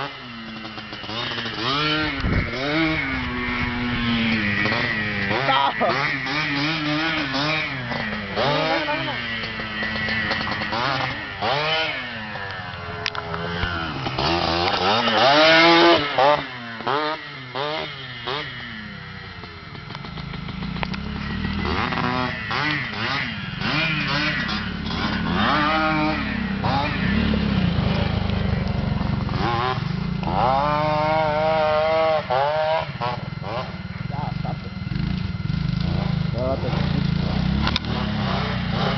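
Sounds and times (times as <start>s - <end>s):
engine running at low revs: 0.0s - 38.9s
motorcycle engine revving: 0.0s - 38.9s.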